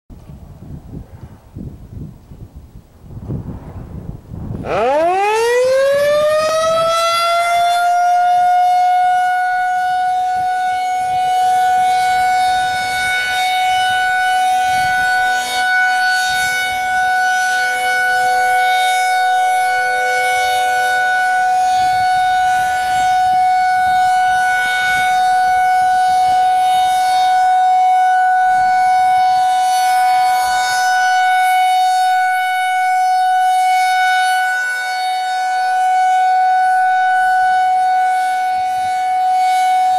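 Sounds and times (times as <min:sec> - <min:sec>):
rotating warning siren: 0:04.5 - 0:39.9
faint sirens in background: 0:04.6 - 0:39.9.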